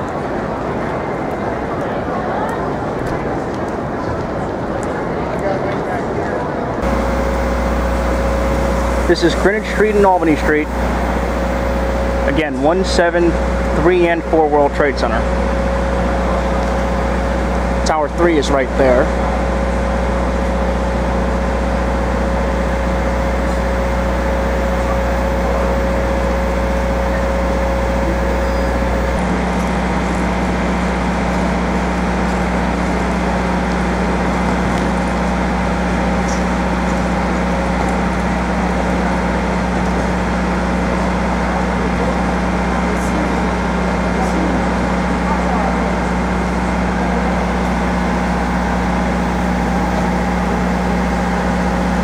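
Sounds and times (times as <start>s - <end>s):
machinery hum: 0.0s - 52.0s
steady whine: 6.2s - 52.0s.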